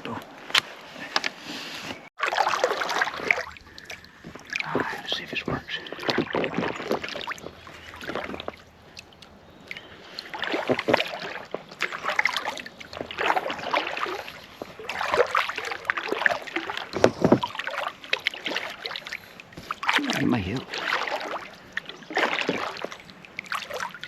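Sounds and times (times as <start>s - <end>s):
paddle strokes in water: 0.0s - 24.0s
water splashing and dripping: 2.2s - 24.0s.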